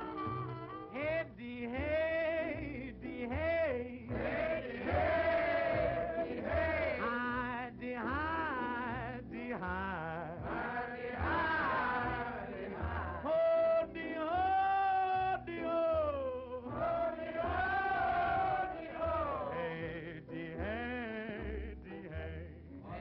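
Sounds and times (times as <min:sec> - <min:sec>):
swing big band playing: 0:00.0 - 0:22.4
man singing: 0:00.9 - 0:04.6, 0:05.2 - 0:12.2, 0:13.2 - 0:23.0.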